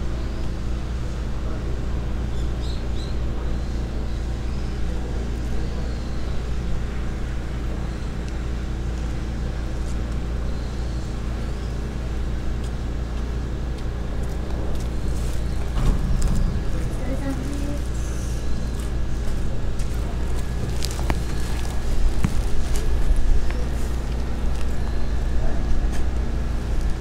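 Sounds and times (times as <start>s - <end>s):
engine idling hum: 0.0s - 27.0s.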